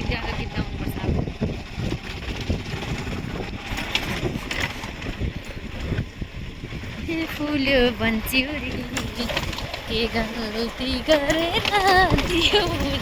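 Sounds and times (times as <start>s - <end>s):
motorcycle on dirt road: 0.0s - 13.0s
wind buffeting microphone: 0.0s - 13.0s.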